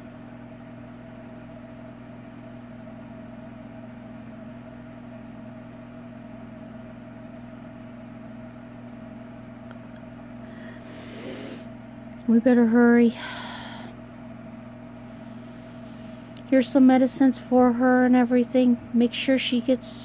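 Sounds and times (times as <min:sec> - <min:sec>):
low machine hum with tones: 0:00.0 - 0:20.0.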